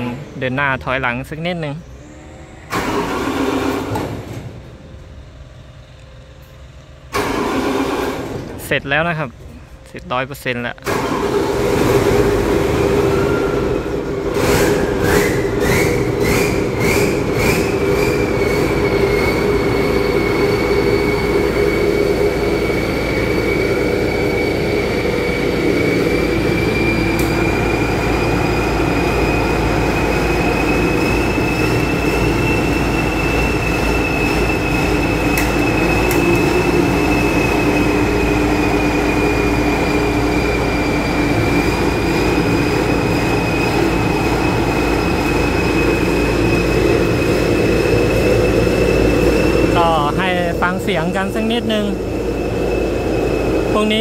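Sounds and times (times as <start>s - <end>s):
combine harvester running: 0.0s - 54.0s
high mechanical whine: 0.0s - 54.0s.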